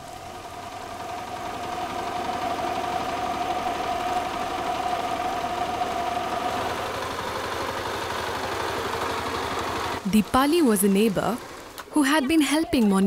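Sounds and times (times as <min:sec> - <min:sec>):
diesel engine chugging: 0:00.0 - 0:13.0.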